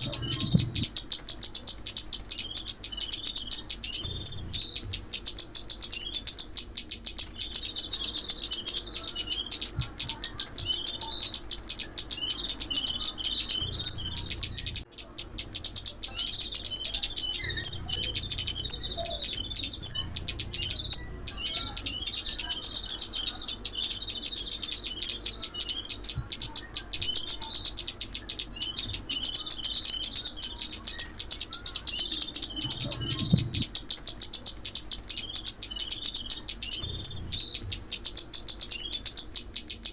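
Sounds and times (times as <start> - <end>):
bird twittering chirps: 0.0 - 39.9
thin steady high tone: 0.0 - 39.9.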